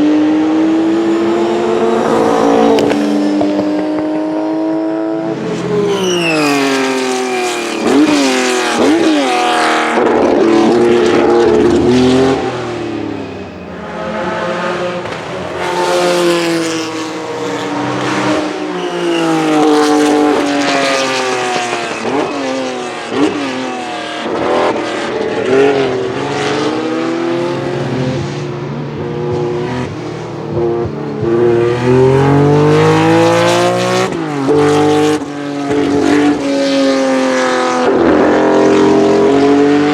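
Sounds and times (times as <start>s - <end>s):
racing engine accelerating: 0.0s - 39.9s.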